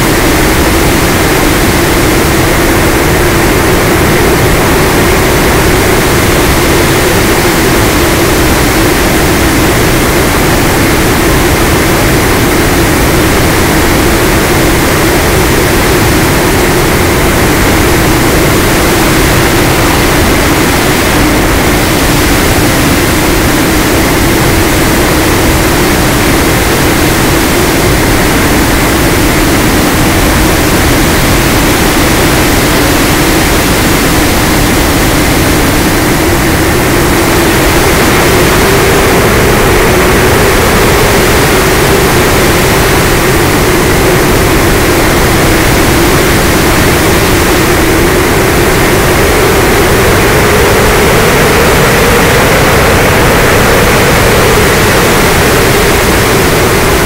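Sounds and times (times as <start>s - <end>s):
low hum: 0.0s - 57.0s
wind noise: 0.0s - 57.0s.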